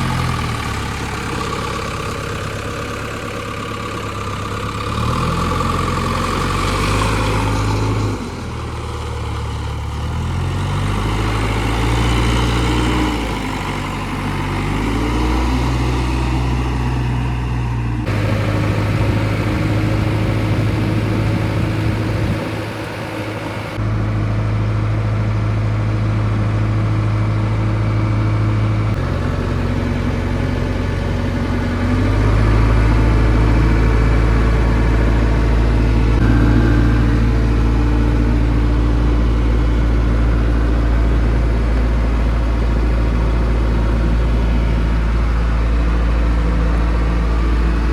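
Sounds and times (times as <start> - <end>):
backhoe diesel engine working: 0.0 - 47.9.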